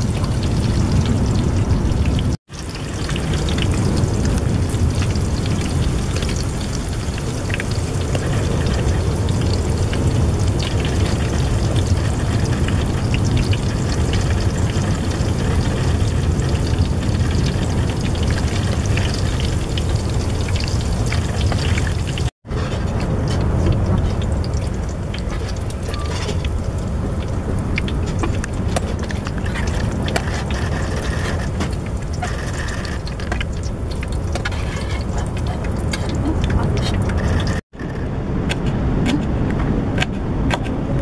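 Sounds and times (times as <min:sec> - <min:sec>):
food sizzling in hot oil: 0:00.0 - 0:37.6.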